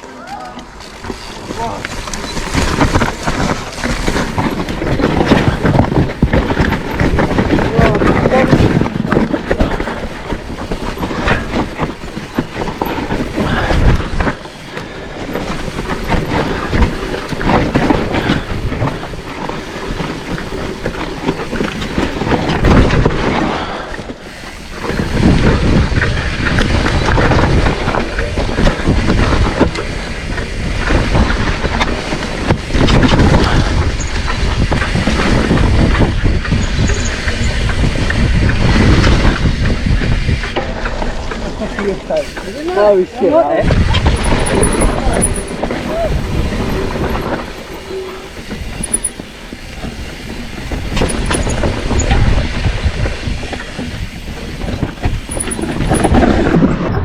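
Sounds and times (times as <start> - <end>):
bike tyres rolling on dirt: 0.0 - 57.0
bike rattling over bumps: 0.6 - 57.0.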